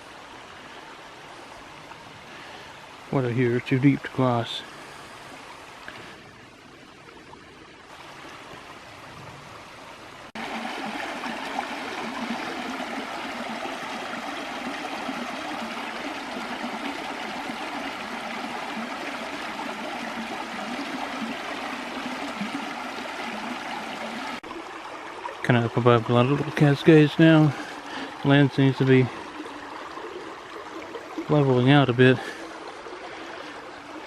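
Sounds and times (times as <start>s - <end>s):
creek water rushing over cascades: 0.0s - 34.0s.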